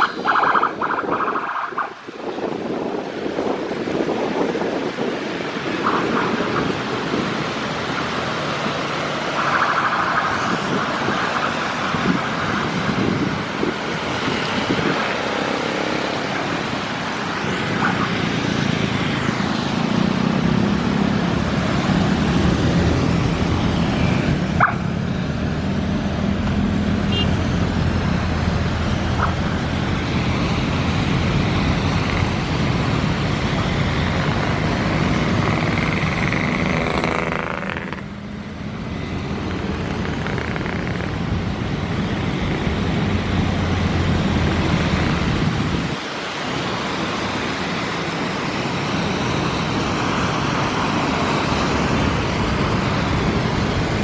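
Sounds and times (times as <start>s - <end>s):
engines humming: 0.0s - 54.0s
tyres hissing on wet road: 0.0s - 54.0s.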